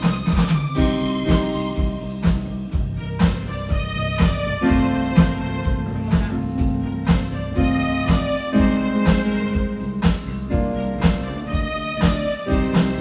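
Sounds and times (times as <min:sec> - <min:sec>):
steady drum beat: 0:00.0 - 0:13.0
sustained keyboard chords: 0:00.0 - 0:13.0.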